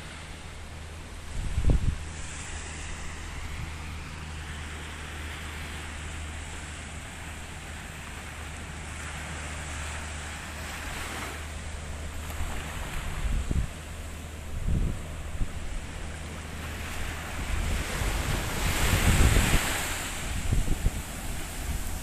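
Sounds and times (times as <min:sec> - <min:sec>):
ocean waves washing: 0:00.0 - 0:22.0
steady low hum: 0:00.0 - 0:22.0
wind: 0:00.0 - 0:22.0.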